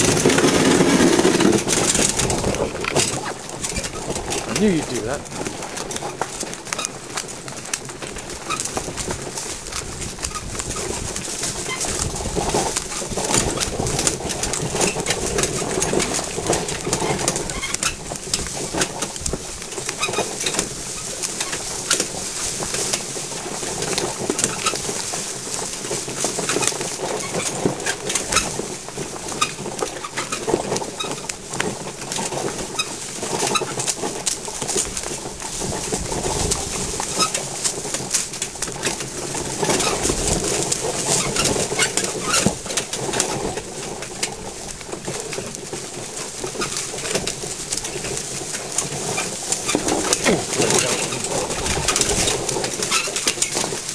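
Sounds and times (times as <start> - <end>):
carriage rattling over rough track: 0.0 - 53.9.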